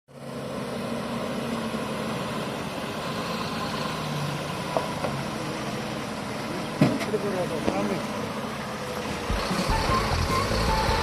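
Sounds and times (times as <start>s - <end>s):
diesel engine idling: 0.1s - 11.0s.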